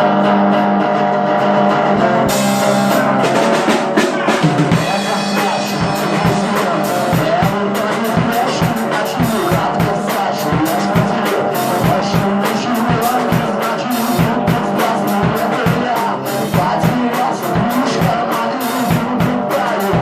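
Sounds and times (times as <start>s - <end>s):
electric guitar: 0.0s - 20.0s
drum kit beat with cymbals: 1.9s - 20.0s.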